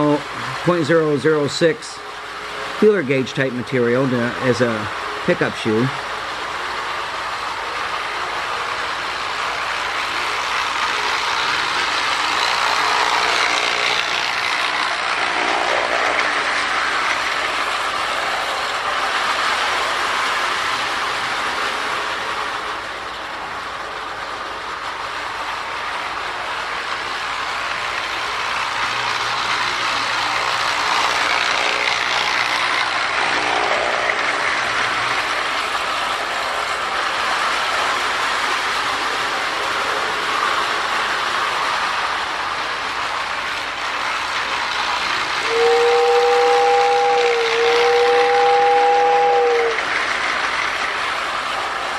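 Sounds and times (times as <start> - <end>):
toy train whirring and clattering: 0.0 - 51.9.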